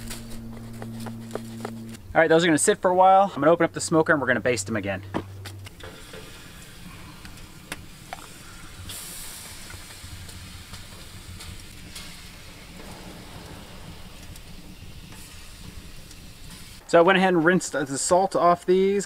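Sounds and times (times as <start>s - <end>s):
hiss and sizzle from smoker: 0.0s - 19.0s.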